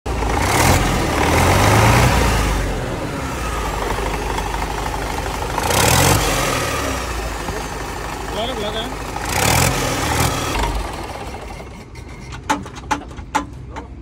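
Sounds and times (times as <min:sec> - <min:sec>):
diesel engine droning and revving: 0:00.0 - 0:14.0.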